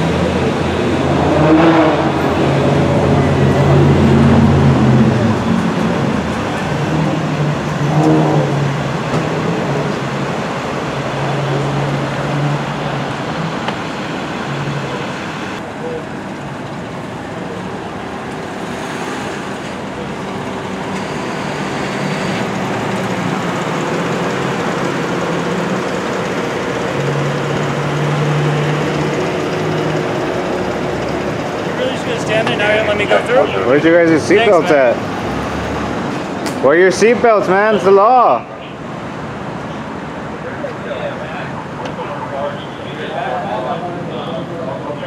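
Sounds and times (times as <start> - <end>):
engines idling: 0.0 - 45.0
street traffic: 0.0 - 45.0.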